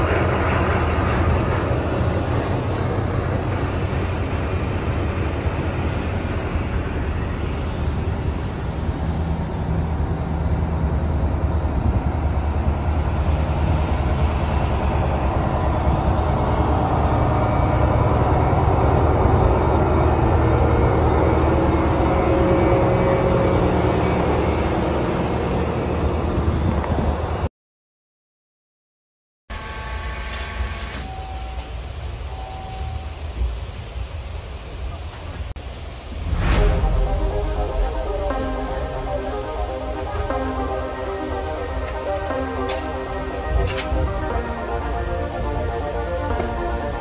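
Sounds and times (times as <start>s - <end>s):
train rumbling: 0.0s - 27.5s, 29.5s - 47.0s.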